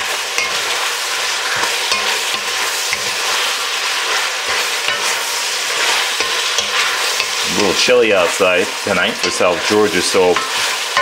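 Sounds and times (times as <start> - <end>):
food sizzling in a hot pan: 0.0 - 11.0
utensil stirring in pan: 0.0 - 11.0.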